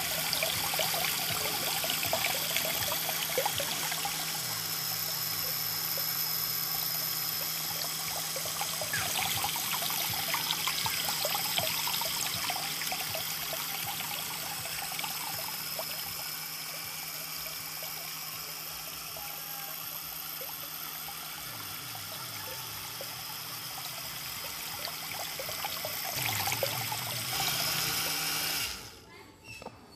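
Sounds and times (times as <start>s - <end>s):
water pouring into tank: 0.0s - 19.2s, 19.8s - 28.9s
small motor hum and whine: 0.0s - 29.9s.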